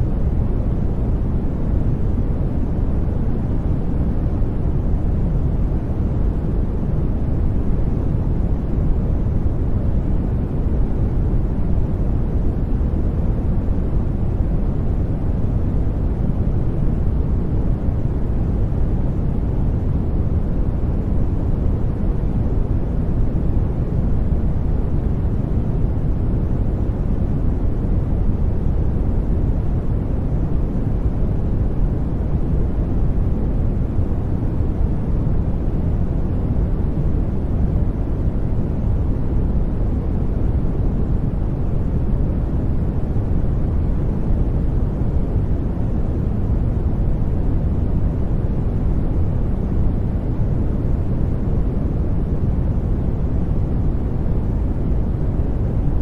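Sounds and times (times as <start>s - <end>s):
brown noise hiss: 0.0s - 56.0s.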